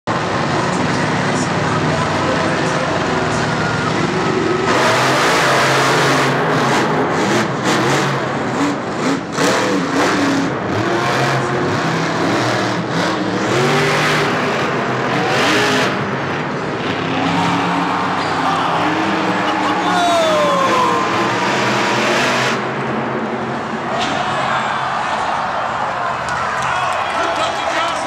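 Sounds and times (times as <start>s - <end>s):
monster truck engines revving: 0.1s - 28.0s.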